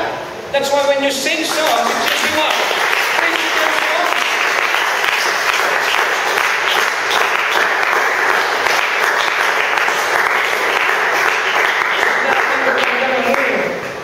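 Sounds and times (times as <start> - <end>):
congregation clapping: 1.3 - 14.0.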